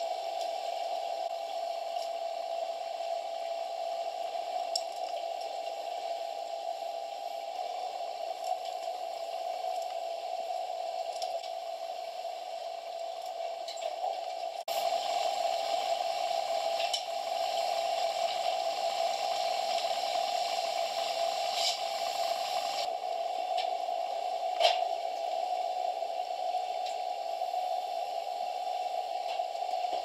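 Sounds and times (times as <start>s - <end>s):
underwater hiss and drone: 0.0s - 30.0s.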